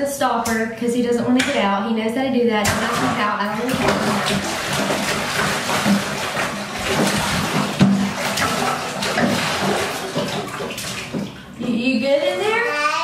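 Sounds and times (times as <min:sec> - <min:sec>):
water splashing in bathtub: 0:00.2 - 0:13.0.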